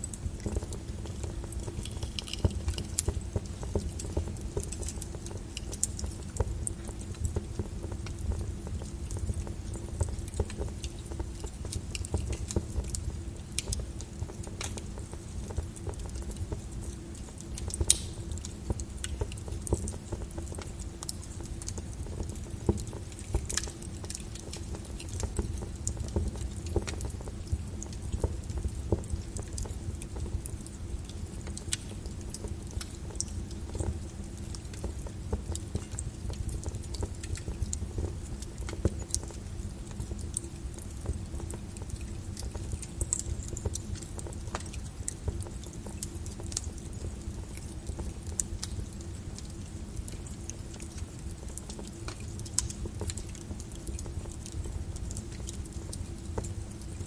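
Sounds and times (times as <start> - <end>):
rain pattering on a window: 0.0 - 57.0
wood fire crackling and popping: 0.0 - 57.0.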